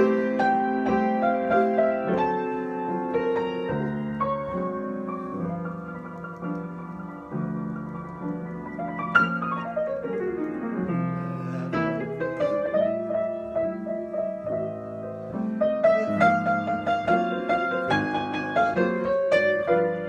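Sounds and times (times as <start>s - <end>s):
piano improvisation: 0.0s - 20.0s.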